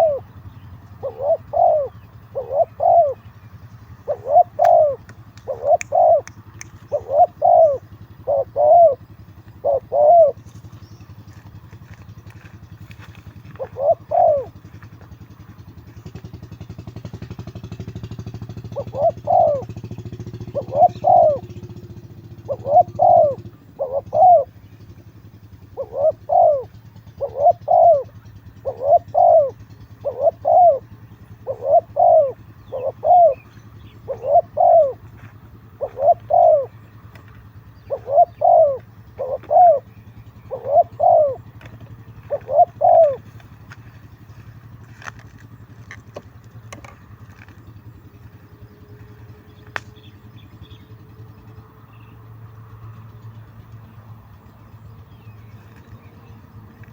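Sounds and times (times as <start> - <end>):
doves cooing: 0.0 - 56.9
low engine hum: 0.0 - 56.9.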